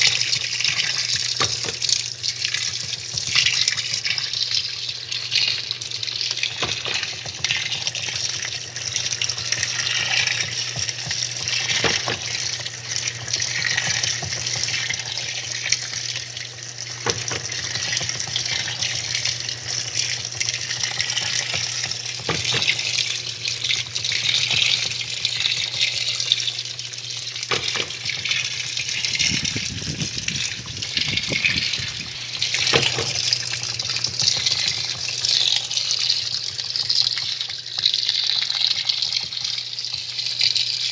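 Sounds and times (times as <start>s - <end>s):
washing machine motor hum: 0.0s - 40.9s
water sloshing in washing machine: 0.0s - 40.9s.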